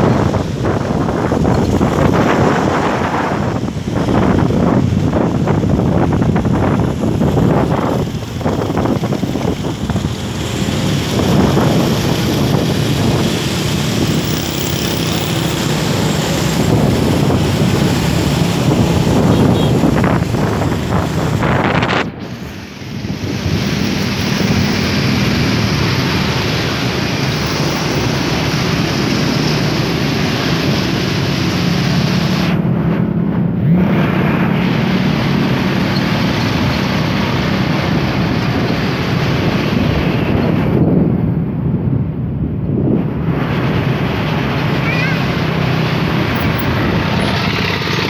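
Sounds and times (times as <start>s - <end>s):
wind buffeting microphone: 0.0s - 47.7s
motorbike traffic: 0.0s - 48.0s
motorcycle engine hum: 0.0s - 48.0s.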